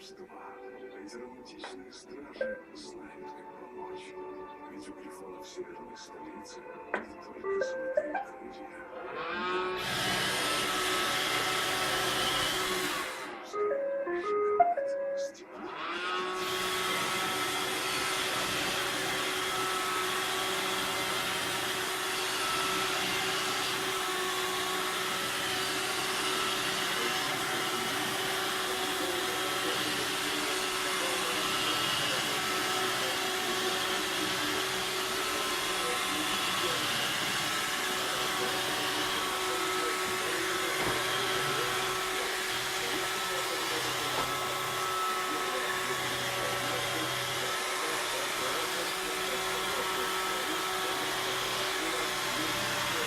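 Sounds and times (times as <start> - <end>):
robot vacuum cleaner whirring: 8.8 - 14.4, 15.6 - 53.0.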